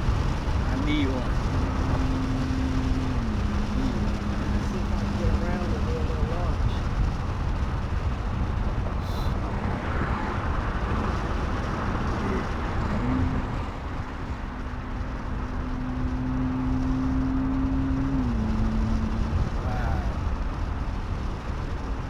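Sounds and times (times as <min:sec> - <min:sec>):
car engine drone in cabin: 0:00.0 - 0:22.0
road and tyre rumble: 0:00.0 - 0:22.0.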